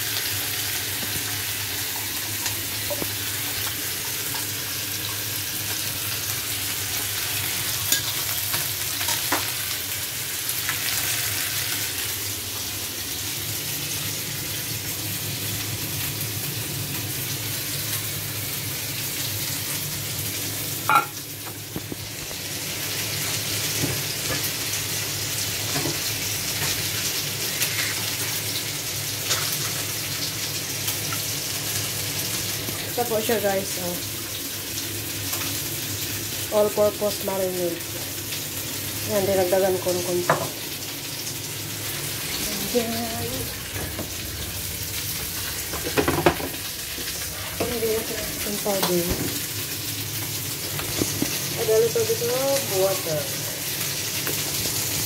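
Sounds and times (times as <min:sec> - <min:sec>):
chicken wings sizzling in oil: 0:00.0 - 0:55.0.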